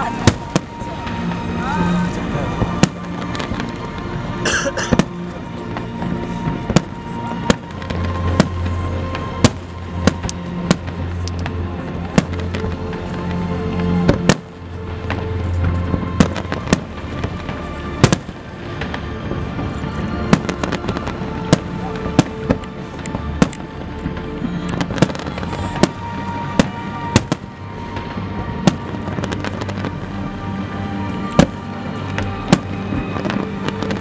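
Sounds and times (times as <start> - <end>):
fireworks bangs and crackles: 0.0 - 34.0
music with long low notes: 0.0 - 34.0.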